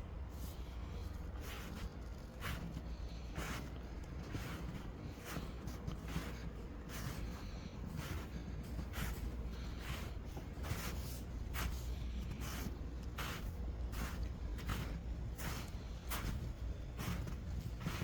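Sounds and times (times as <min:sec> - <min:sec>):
steady low rumble: 0:00.0 - 0:18.0
footsteps crunching on snow: 0:00.3 - 0:18.0.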